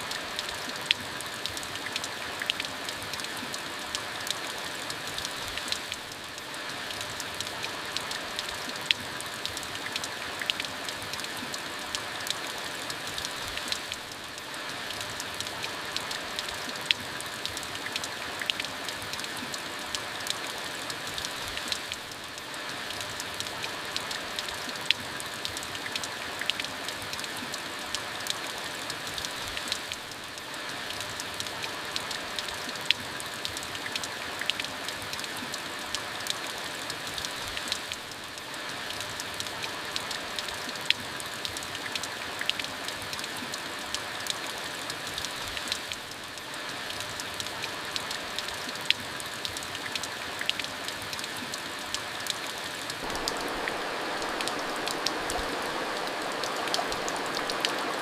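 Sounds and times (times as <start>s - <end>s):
rain drops striking hard surface: 0.0s - 58.0s.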